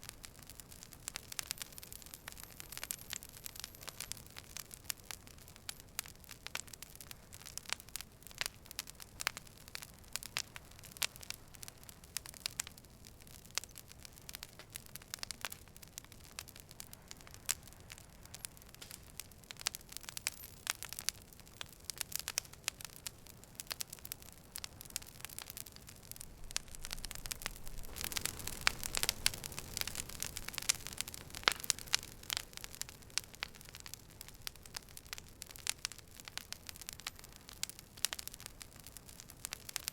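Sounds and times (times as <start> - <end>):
campfire crackling and popping: 0.0 - 39.9
soft hiss of fire: 0.0 - 39.9.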